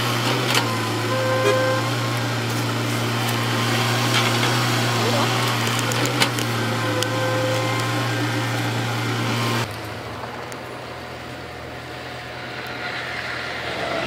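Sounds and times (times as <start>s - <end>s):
diesel engine of heavy machinery: 0.0s - 14.0s.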